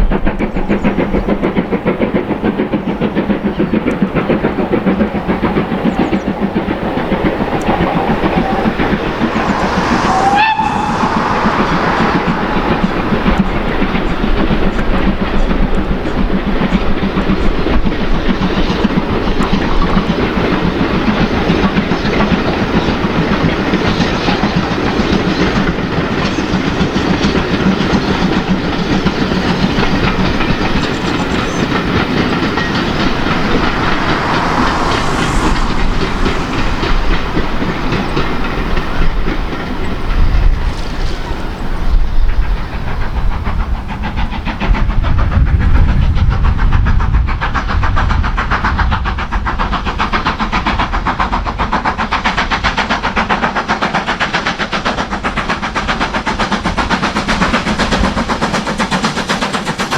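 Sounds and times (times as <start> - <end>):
train rumble: 0.0 - 59.9
train wheels clicking over rail joints: 0.0 - 59.9.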